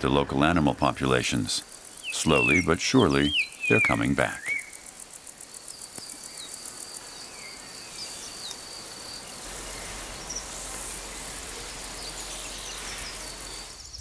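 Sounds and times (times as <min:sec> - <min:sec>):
even hiss: 0:00.0 - 0:14.0
insects trilling: 0:00.0 - 0:14.0
bird chirps: 0:01.8 - 0:05.1, 0:05.7 - 0:14.0.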